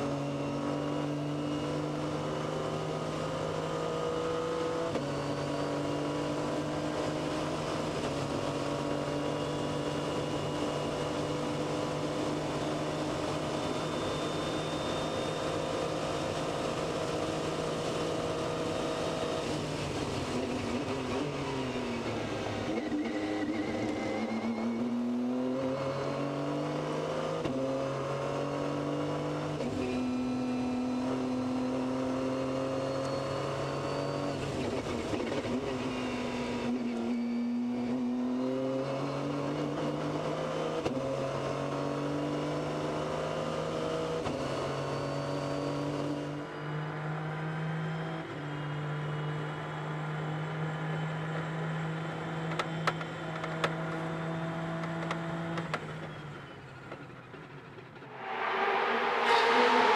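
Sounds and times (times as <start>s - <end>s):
race car engine with gear changes: 0.0s - 58.1s.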